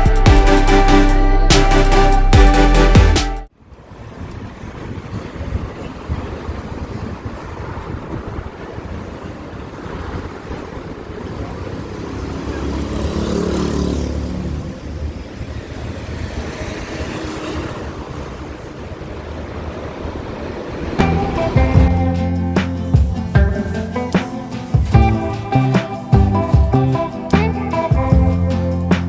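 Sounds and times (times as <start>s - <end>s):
traffic rumbling: 0.0s - 29.0s
vehicle passing by: 4.5s - 29.0s.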